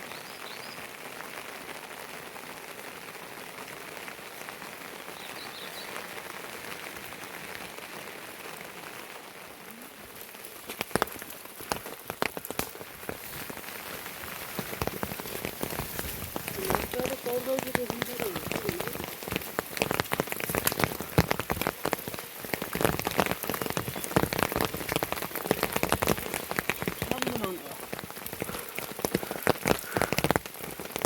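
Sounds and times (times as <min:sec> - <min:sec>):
steady rain falling: 0:00.0 - 0:31.0
heavy raindrops tapping: 0:01.0 - 0:31.0.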